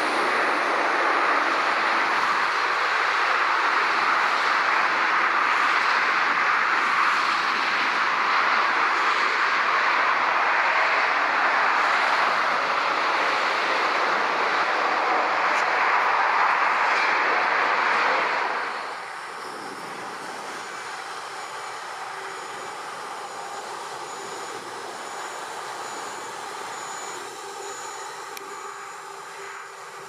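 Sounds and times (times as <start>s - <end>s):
distant jet engines roaring: 0.0s - 30.0s
motorway traffic: 0.0s - 30.0s.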